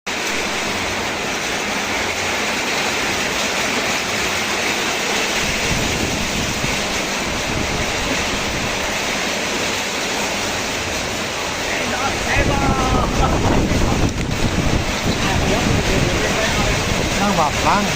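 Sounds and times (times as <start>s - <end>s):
heavy rain falling: 0.1s - 17.9s.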